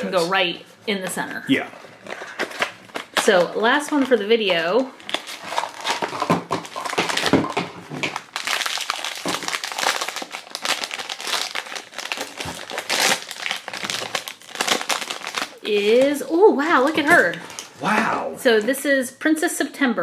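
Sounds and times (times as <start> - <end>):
foil bag crinkling: 1.7 - 17.8.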